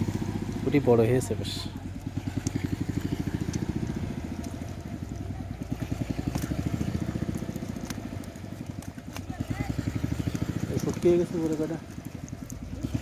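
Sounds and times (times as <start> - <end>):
small engine puttering: 0.0 - 13.0.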